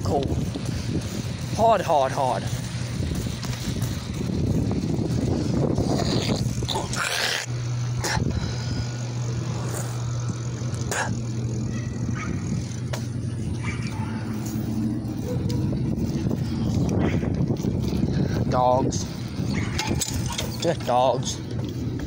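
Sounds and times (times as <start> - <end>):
bicycle riding rumble: 0.0 - 22.0.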